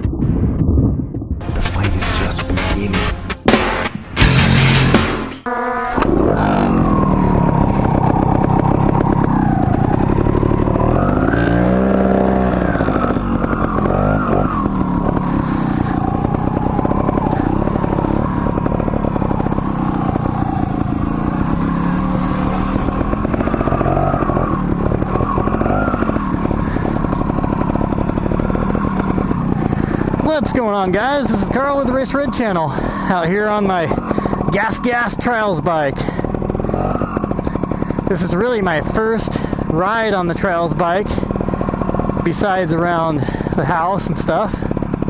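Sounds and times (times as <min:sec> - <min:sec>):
motorcycle engine revving: 0:03.4 - 0:45.0.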